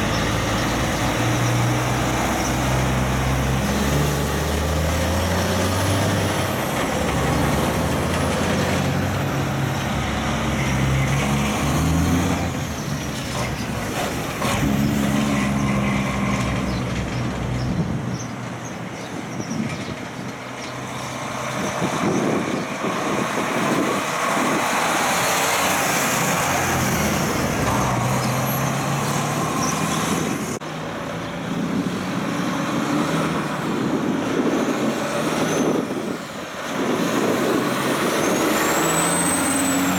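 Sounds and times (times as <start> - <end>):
heavy diesel trucks passing: 0.0 - 39.9.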